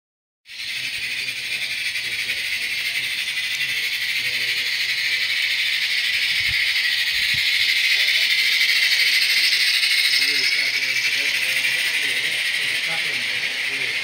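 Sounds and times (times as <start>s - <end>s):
steam exhaust chuffs: 0.5s - 14.0s
train rattling on track: 0.5s - 14.0s.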